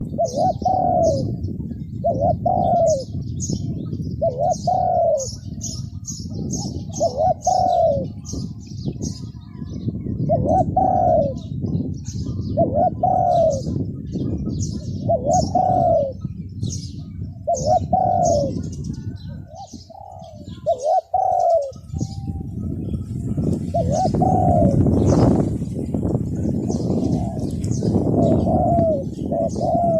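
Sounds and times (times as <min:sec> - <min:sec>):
doves cooing: 0:00.0 - 0:29.9
small birds chirping: 0:00.0 - 0:29.9
strong wind rushing: 0:00.0 - 0:29.9.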